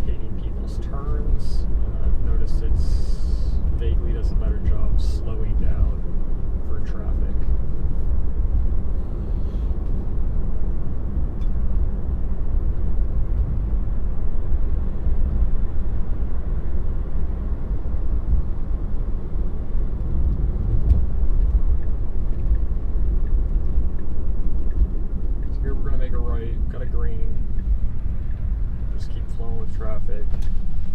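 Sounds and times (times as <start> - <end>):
road and tyre rumble in car cabin: 0.0 - 30.9.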